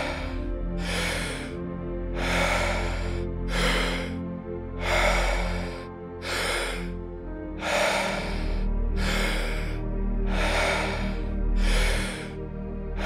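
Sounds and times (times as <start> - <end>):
ambient music pad: 0.0 - 13.0
person breathing deeply: 0.0 - 13.0.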